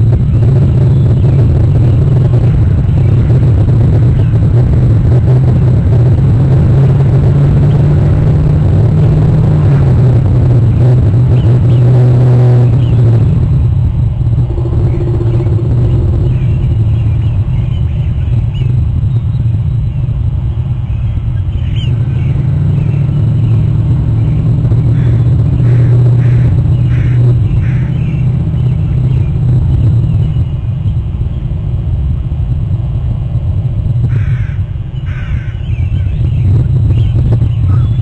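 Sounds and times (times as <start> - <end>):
loud low rumble: 0.0 - 38.0
pitched hum: 0.0 - 38.0.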